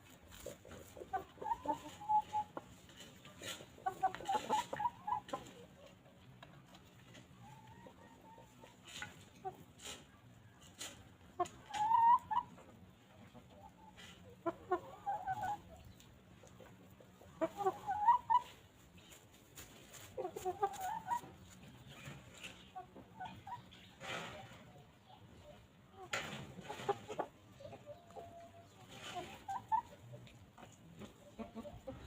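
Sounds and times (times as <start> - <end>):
hens clucking: 0.0 - 32.0.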